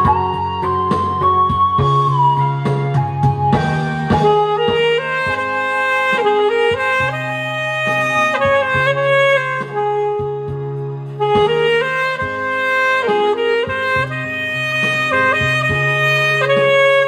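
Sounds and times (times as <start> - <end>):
steady bass line: 0.0 - 17.0
sustained lead melody: 0.0 - 17.0.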